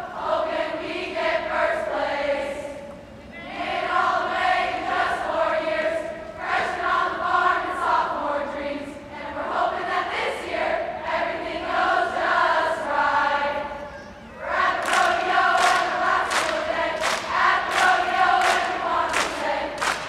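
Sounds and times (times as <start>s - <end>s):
choir singing long held notes: 0.0s - 20.0s.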